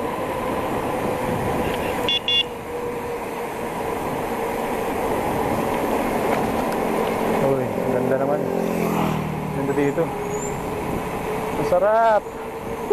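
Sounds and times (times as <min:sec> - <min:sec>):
bicycle coasting with wind noise: 0:00.0 - 0:12.9.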